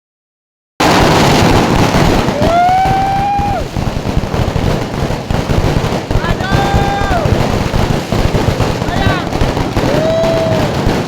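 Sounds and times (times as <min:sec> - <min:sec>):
fireworks crackling: 0:00.8 - 0:11.0.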